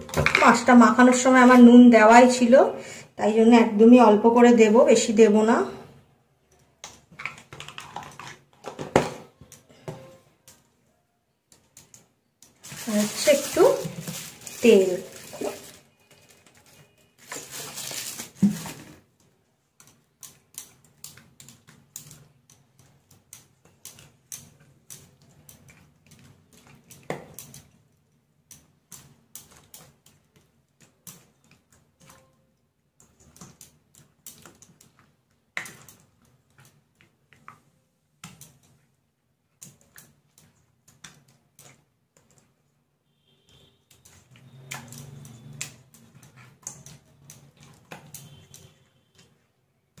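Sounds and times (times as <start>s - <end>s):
hand mixing fish in steel bowl: 0.0s - 2.6s, 11.5s - 43.0s, 43.6s - 50.0s.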